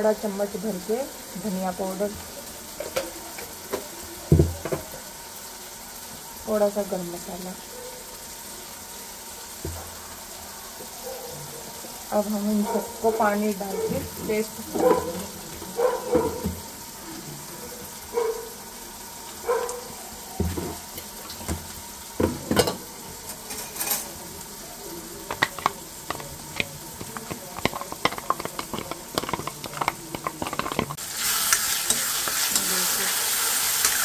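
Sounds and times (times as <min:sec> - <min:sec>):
frying sizzle: 0:00.0 - 0:34.0.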